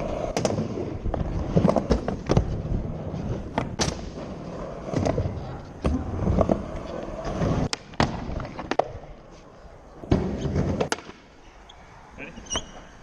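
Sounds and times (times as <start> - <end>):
skateboard wheels rumbling: 0.0 - 11.1.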